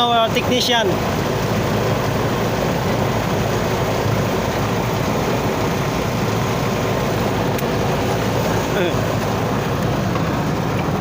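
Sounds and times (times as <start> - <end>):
machinery droning: 0.0 - 11.0.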